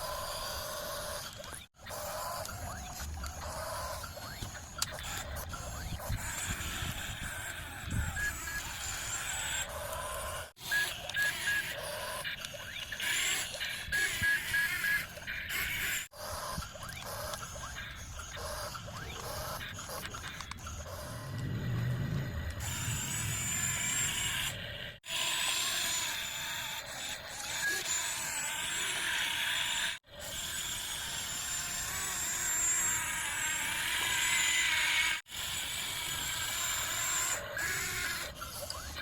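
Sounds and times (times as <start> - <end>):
toy motors whirring: 0.0 - 39.0.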